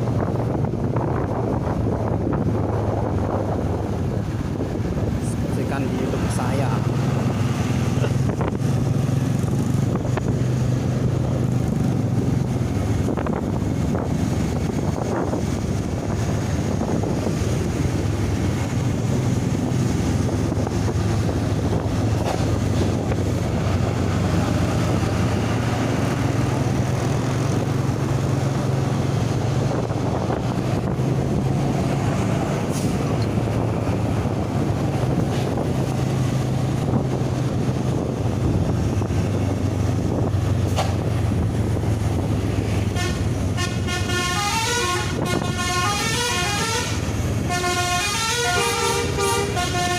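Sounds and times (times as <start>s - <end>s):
road noise: 0.0s - 49.9s
vehicle engine drone: 0.0s - 49.9s
wind noise on microphone: 0.0s - 49.9s.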